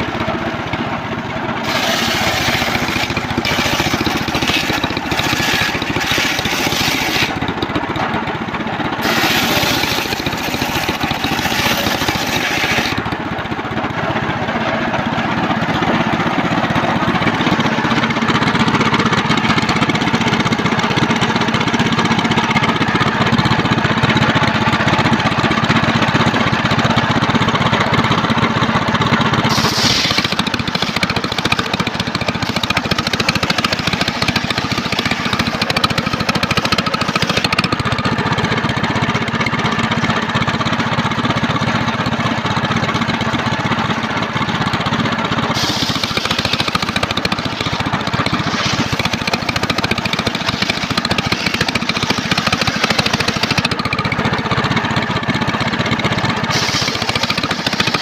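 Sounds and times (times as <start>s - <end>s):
sawmill engine sawing timber: 0.0s - 58.0s.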